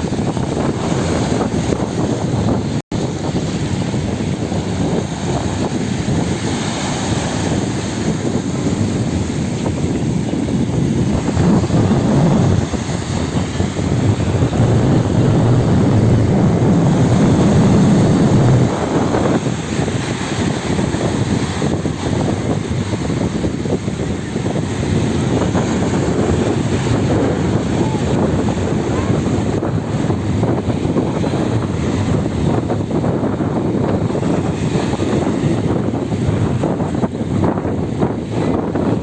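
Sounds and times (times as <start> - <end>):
gusty wind buffeting microphone: 0.0 - 39.0
sea waves: 0.0 - 39.0.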